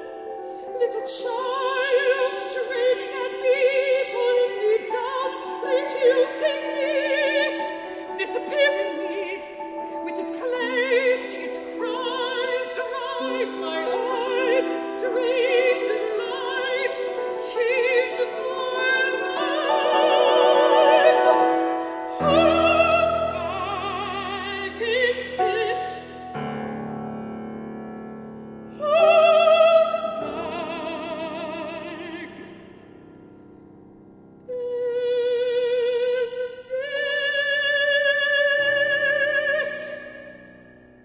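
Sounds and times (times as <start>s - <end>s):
grand piano: 0.0s - 41.0s.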